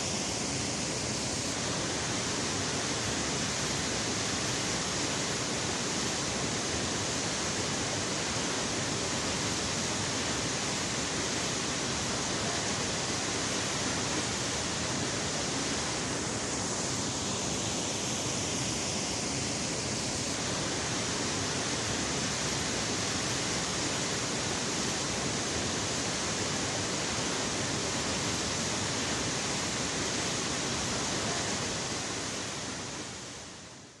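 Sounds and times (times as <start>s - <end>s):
waterfall rushing: 0.0s - 33.3s.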